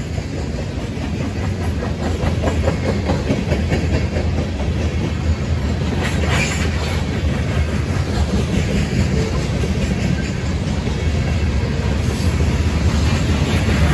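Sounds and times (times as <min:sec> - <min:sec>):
train wheels rumbling on rail: 0:00.0 - 0:13.9
wheels clicking over rail joints: 0:00.0 - 0:13.9.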